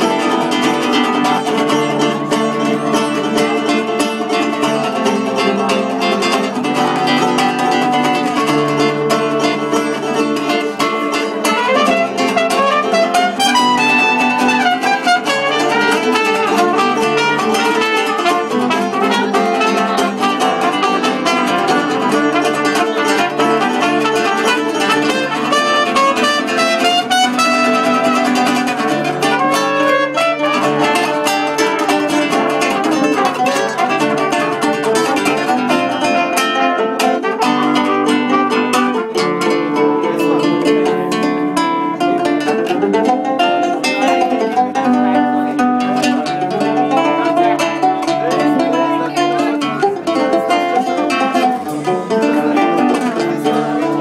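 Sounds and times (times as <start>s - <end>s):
acoustic band playing: 0.0s - 54.0s
acoustic guitar strumming: 0.0s - 54.0s
plucked string instrument: 0.0s - 54.0s.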